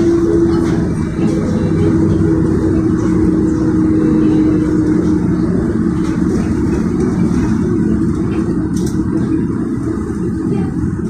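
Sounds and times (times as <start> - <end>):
tyres rumbling on wet road: 0.0 - 11.0.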